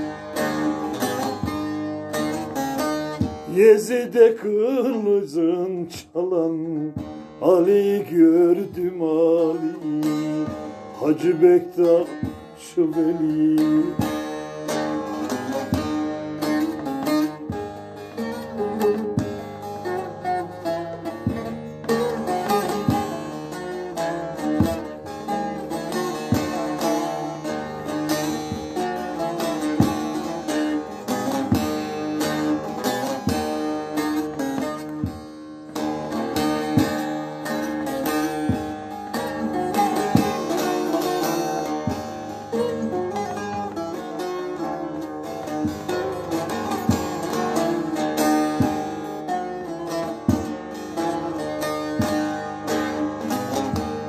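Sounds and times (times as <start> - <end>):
plucked long-necked lute solo: 0.0 - 54.0.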